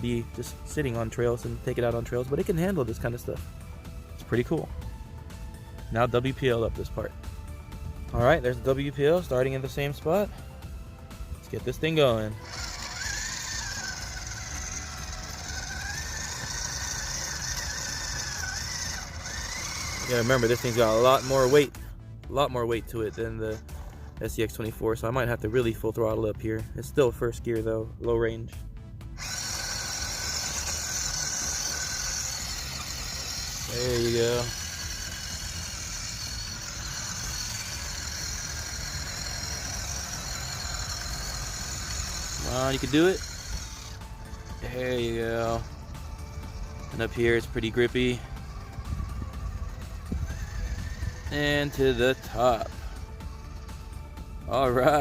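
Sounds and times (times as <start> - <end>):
electric motor whining under load: 0.0 - 21.9, 22.8 - 24.3, 29.0 - 55.0.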